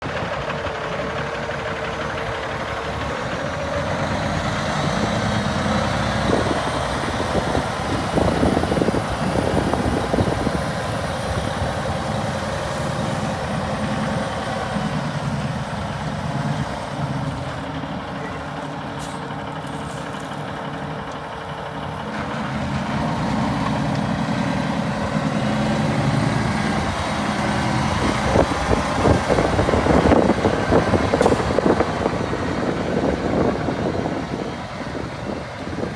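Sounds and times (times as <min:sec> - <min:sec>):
truck diesel engine running: 0:00.0 - 0:35.9.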